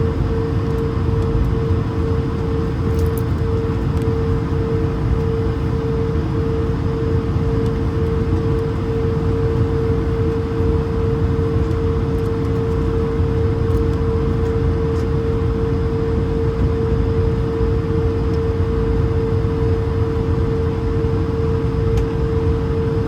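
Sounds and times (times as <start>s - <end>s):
aircraft cabin rumble: 0.0s - 23.0s
mid-pitched hum: 0.0s - 23.0s.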